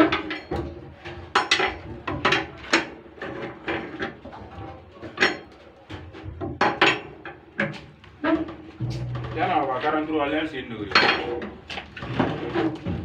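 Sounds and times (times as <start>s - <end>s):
tools knocking and clanking: 0.0s - 4.2s, 5.1s - 9.8s, 10.9s - 13.0s.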